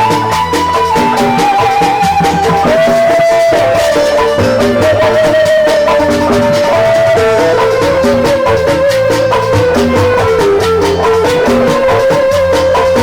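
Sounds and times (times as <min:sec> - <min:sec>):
bass line: 0:00.0 - 0:13.0
held melody line: 0:00.0 - 0:13.0
steady percussion: 0:00.0 - 0:13.0.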